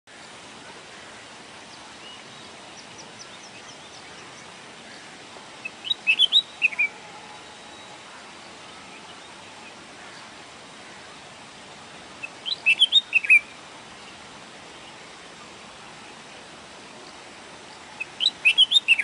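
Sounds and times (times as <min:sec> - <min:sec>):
steady background hiss: 0:00.1 - 0:19.0
bird calling: 0:00.6 - 0:11.2, 0:12.2 - 0:14.2, 0:15.8 - 0:19.0.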